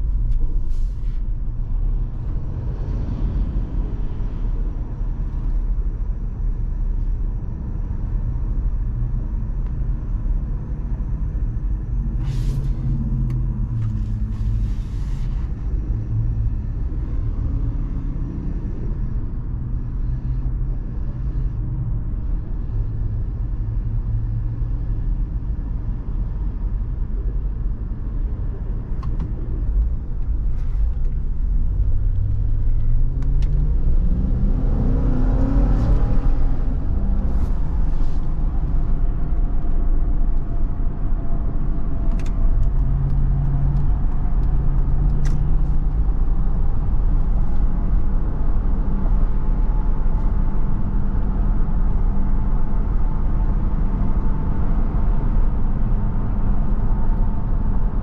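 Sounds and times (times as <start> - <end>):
vehicle engine and tyres rumbling: 0.0 - 58.0.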